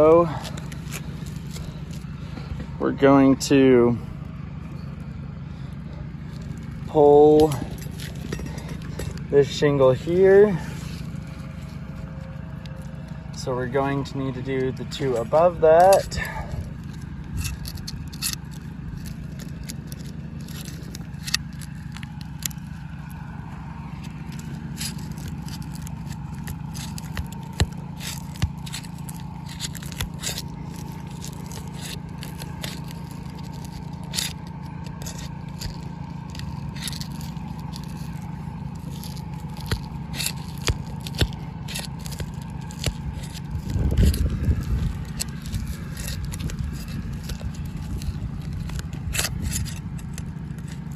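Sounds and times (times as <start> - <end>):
shingles scraping and crackling: 0.0 - 2.7, 5.5 - 50.9
steady low hum: 0.0 - 50.9.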